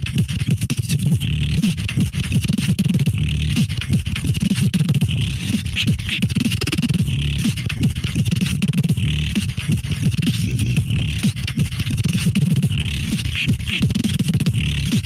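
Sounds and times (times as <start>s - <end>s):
person beatboxing: 0.0s - 15.0s.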